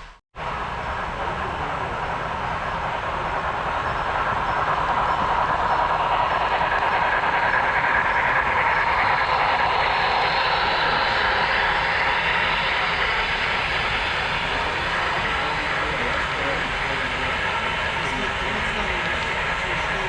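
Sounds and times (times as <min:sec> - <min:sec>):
model train running on track: 0:00.4 - 0:20.0.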